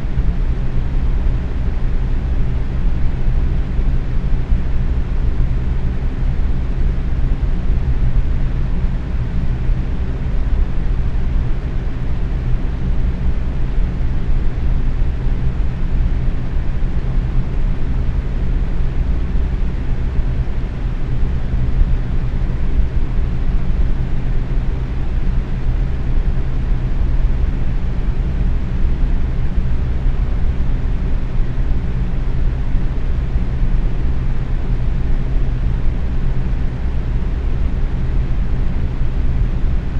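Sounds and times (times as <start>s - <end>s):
fan motor hum: 0.0s - 39.9s.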